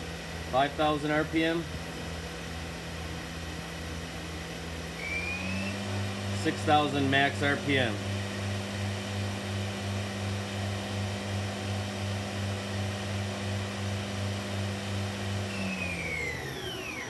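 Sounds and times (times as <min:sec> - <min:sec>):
machine spindle humming: 0:00.0 - 0:17.0.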